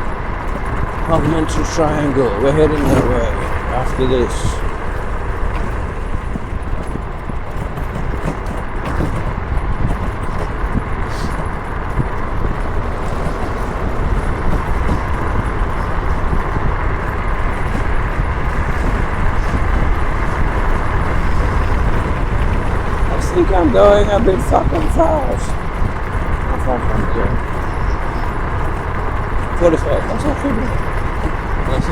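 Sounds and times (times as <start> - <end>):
wind roaring over microphone: 0.0 - 31.9.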